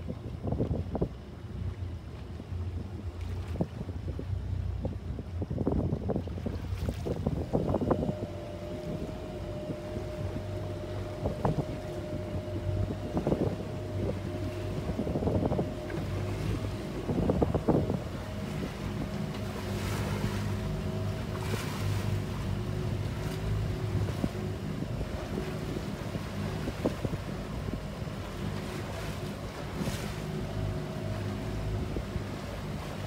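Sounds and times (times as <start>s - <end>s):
motorboat engine running: 0.0s - 33.0s
water splashing against hull: 0.0s - 33.0s
wind on microphone: 0.0s - 33.0s.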